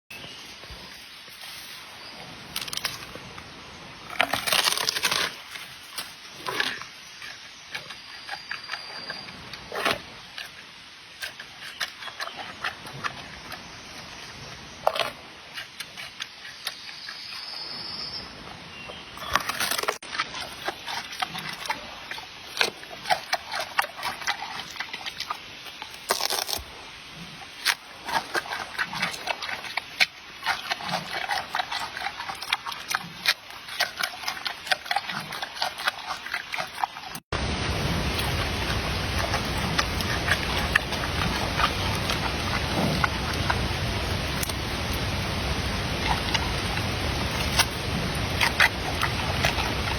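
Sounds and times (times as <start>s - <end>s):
panda crunching and scraping: 0.1s - 3.4s, 4.1s - 17.6s, 19.2s - 49.9s.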